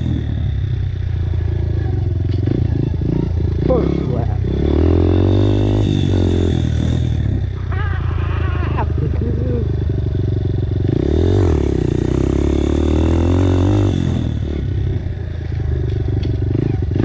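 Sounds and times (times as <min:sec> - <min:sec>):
dirt bike engine revving: 0:00.0 - 0:15.2.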